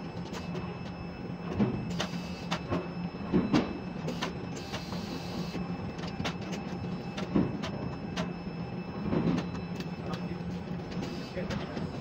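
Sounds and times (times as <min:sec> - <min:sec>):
crane mechanical hum: 0:00.0 - 0:12.0.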